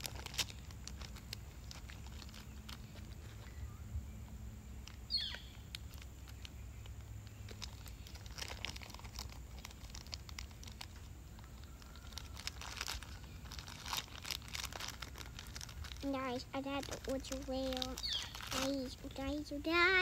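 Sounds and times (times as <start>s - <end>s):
plastic bag crinkling: 0.0s - 3.6s, 4.8s - 20.0s.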